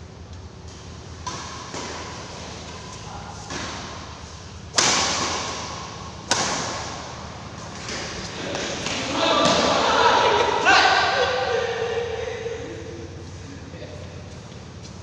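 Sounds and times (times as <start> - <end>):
rackets hitting shuttlecock: 0.3 - 13.4.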